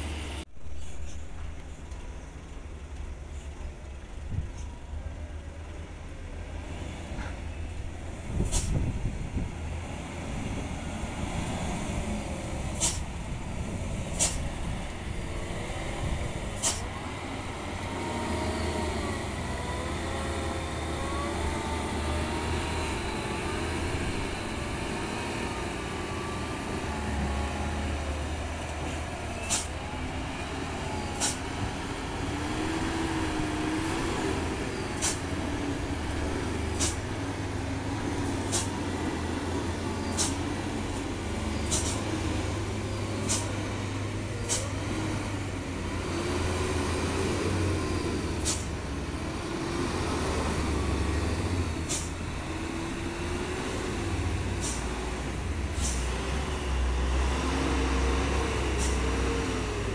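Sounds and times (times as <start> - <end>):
diesel truck engine under load: 0.0 - 59.9.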